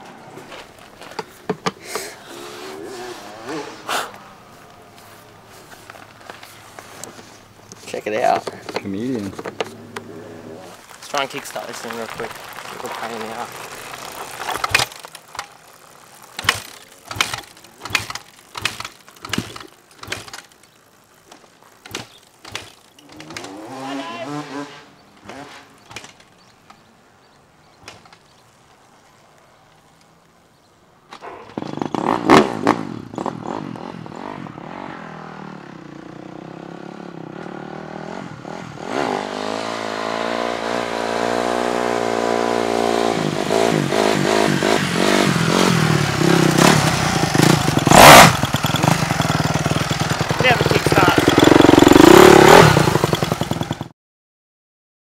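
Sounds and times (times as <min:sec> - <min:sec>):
dirt bike engine revving: 0:01.8 - 0:05.6, 0:07.2 - 0:26.8, 0:31.4 - 0:53.9.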